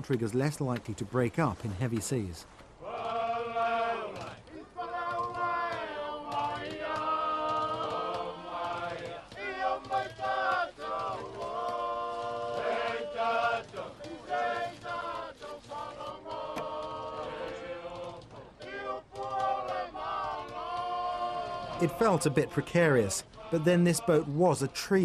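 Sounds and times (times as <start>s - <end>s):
group singing in harmony: 2.8s - 25.0s.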